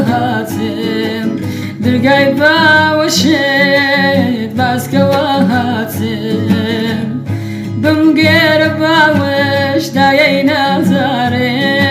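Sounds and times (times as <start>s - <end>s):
person singing with vibrato: 0.0s - 11.9s
plucked strings: 0.0s - 11.9s.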